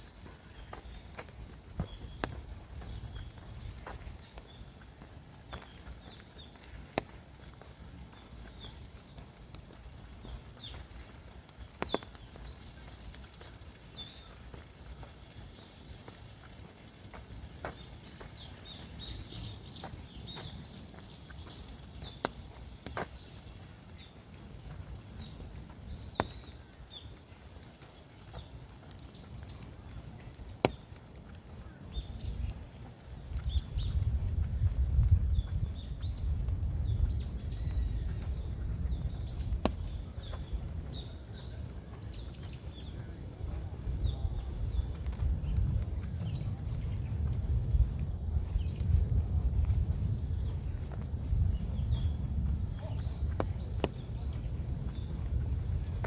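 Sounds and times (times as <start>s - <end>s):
small birds chirping: 0.0s - 49.0s, 50.4s - 56.0s
wind rumble on microphone: 0.0s - 56.0s.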